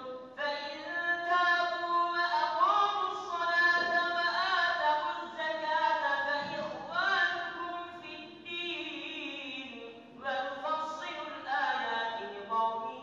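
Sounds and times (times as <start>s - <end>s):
man chanting melodic recitation: 0.5s - 13.0s.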